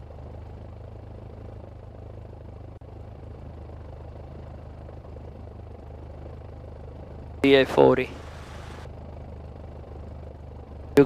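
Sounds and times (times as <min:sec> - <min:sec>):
piston engine idling: 0:00.0 - 0:11.0.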